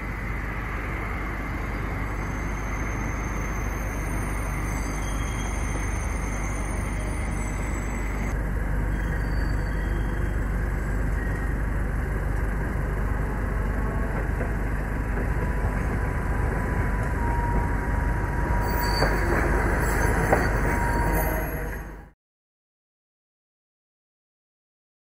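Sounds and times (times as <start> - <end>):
road traffic: 0.0 - 22.2
streetcar running on tracks: 0.0 - 22.2.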